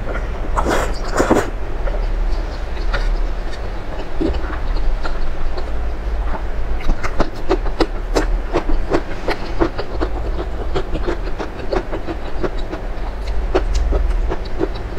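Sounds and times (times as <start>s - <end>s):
low steady hum: 0.0s - 14.9s
chewing and slurping noodles: 0.6s - 14.9s.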